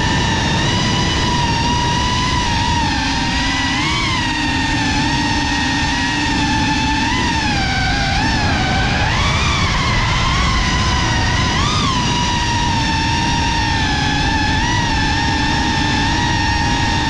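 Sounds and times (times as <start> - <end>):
drone motors whining: 0.0 - 17.0
rushing wind: 0.0 - 17.0.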